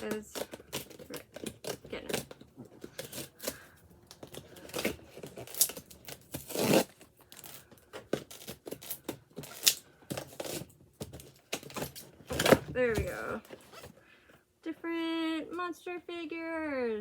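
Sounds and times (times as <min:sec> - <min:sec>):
box tearing open: 0:00.0 - 0:13.9.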